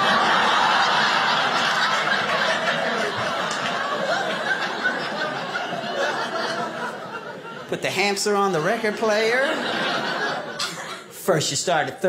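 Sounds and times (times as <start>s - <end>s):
audience laughing: 0.0s - 11.5s.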